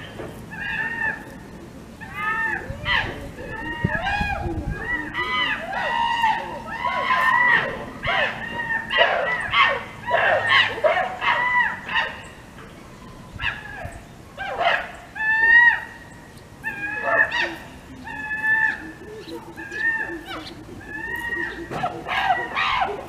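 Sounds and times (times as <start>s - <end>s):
birds calling rising and falling: 0.0s - 23.0s.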